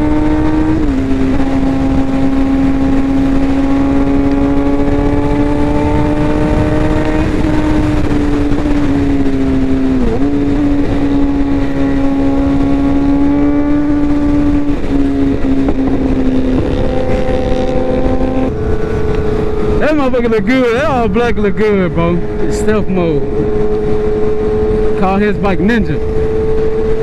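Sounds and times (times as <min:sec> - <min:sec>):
low rush of wind: 0:00.0 - 0:27.0
motorcycle engine cruising: 0:00.0 - 0:27.0.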